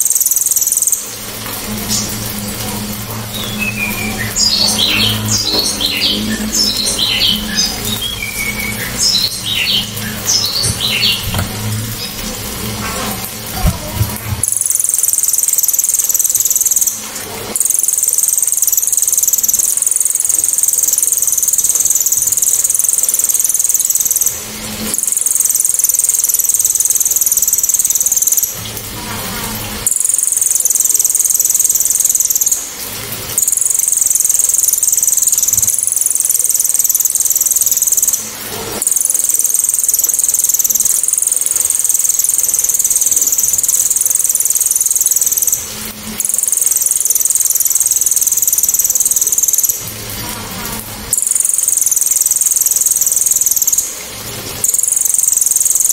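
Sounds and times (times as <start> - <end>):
bird singing rapid high calls: 0.0 - 1.2, 1.8 - 12.2, 13.6 - 28.6, 29.8 - 32.7, 33.3 - 49.8, 51.1 - 54.0, 54.6 - 55.9.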